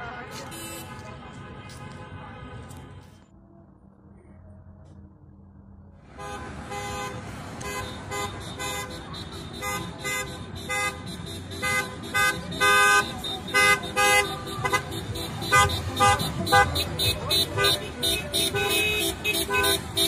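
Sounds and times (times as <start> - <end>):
car horns honking: 0.0 - 3.2, 6.1 - 20.0
street traffic: 0.0 - 20.0.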